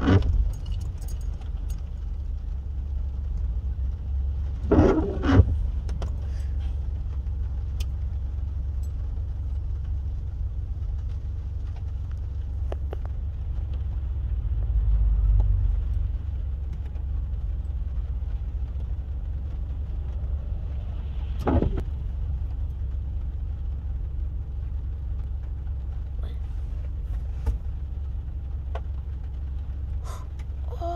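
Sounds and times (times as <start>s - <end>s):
car engine rumble inside cabin: 0.0s - 30.9s.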